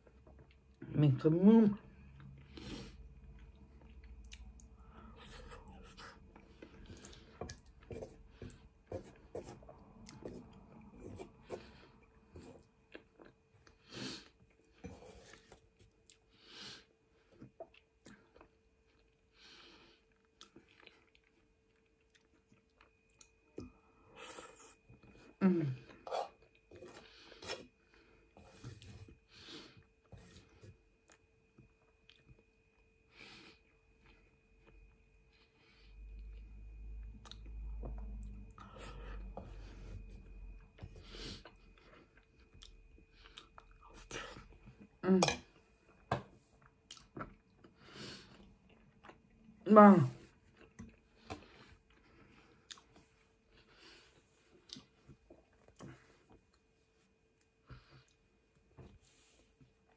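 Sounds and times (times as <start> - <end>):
faint chewing: 2.0 - 32.9, 33.7 - 59.9.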